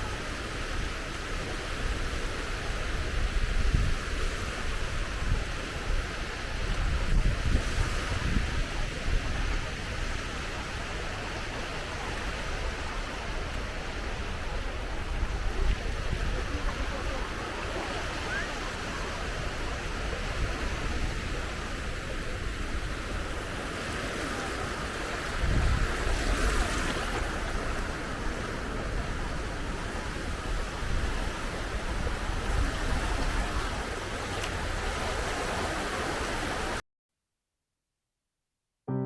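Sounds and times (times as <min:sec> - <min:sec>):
ocean surf washing on beach: 0:00.0 - 0:36.8.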